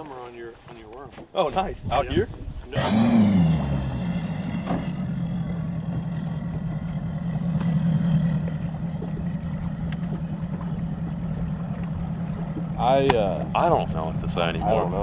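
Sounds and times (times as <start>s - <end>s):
outboard motor running: 2.8s - 15.0s.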